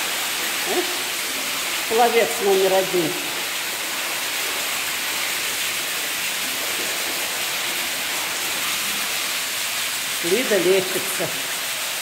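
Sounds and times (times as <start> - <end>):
water pouring into pool: 0.0 - 12.0.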